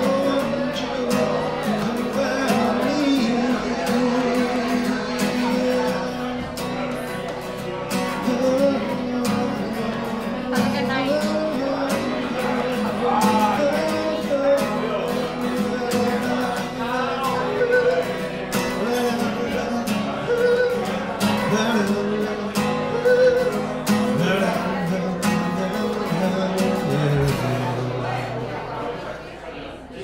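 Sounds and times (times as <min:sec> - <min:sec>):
man singing: 0:00.0 - 0:29.2
acoustic guitar strumming: 0:00.0 - 0:29.7.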